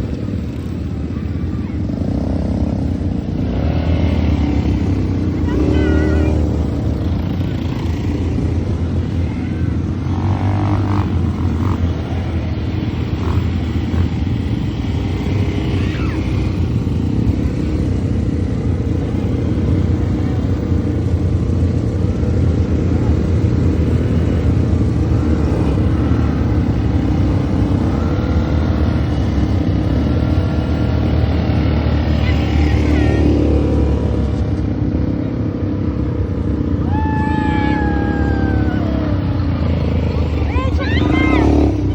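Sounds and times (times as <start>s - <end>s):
faint voices: 0.0s - 30.3s, 31.0s - 41.9s
atv engine running: 0.0s - 41.9s.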